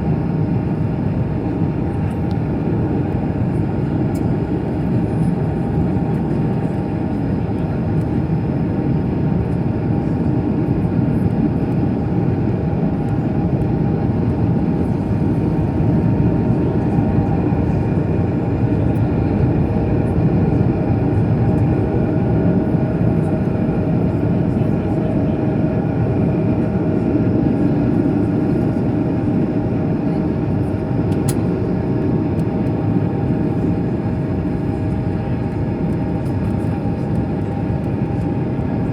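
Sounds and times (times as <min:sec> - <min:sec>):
jet engines and airflow in cabin: 0:00.0 - 0:38.9.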